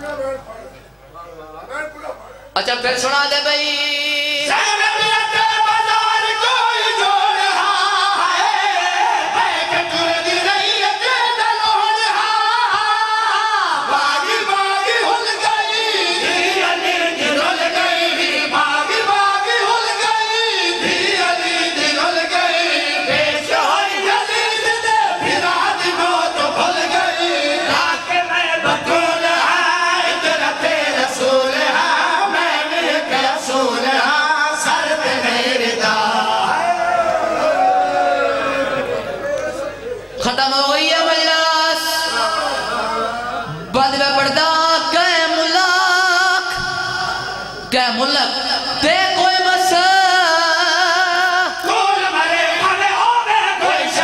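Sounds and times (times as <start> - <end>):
men singing a lament together: 3.3 - 39.0, 40.2 - 54.0.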